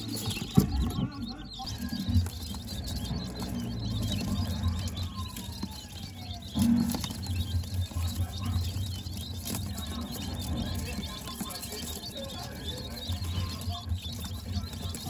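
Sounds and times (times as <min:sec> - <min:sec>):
beaks tapping plastic tray: 0:00.0 - 0:15.0
chicks cheeping: 0:00.0 - 0:15.0.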